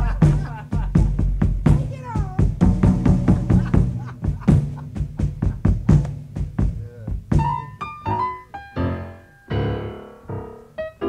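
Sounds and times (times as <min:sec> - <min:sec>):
jazz drum kit: 0:00.0 - 0:10.6
piano notes and chords: 0:01.7 - 0:11.0.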